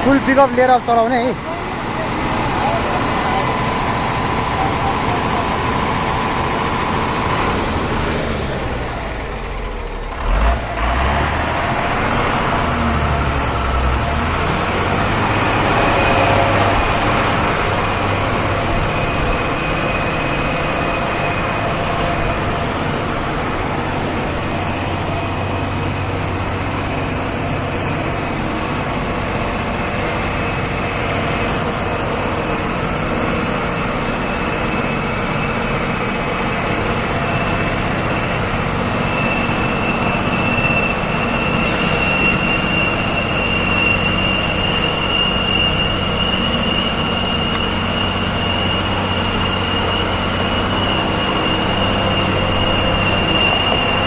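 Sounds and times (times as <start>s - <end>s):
truck diesel engine under load: 0.0s - 54.0s.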